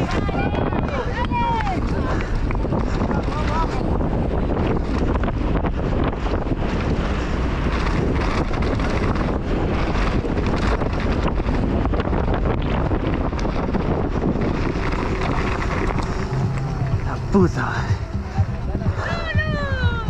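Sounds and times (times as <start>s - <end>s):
mountain bike rattling over gravel: 0.0s - 17.9s
tyre noise: 0.0s - 20.0s
wind buffeting microphone: 0.0s - 20.0s.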